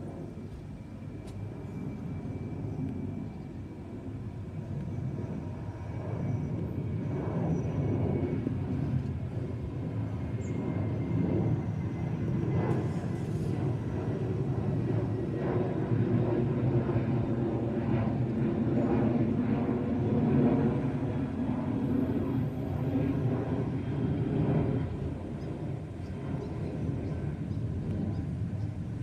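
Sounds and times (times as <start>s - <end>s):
jet airliner flying overhead: 0.0s - 29.0s.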